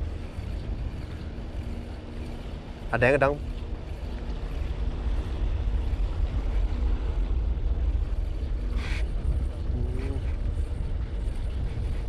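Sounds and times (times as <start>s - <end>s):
faint boat engine hum: 0.0s - 12.0s
wind buffeting microphone: 0.0s - 12.0s.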